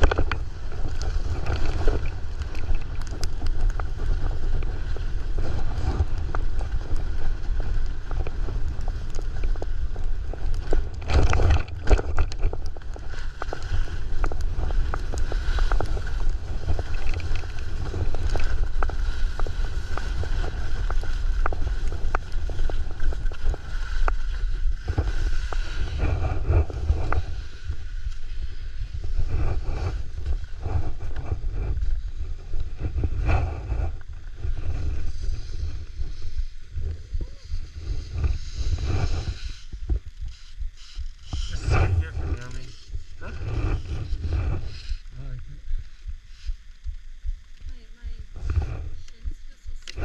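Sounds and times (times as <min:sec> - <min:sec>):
skis scraping over snow: 0:00.0 - 0:46.5
wind rumble on microphone: 0:00.0 - 0:50.0.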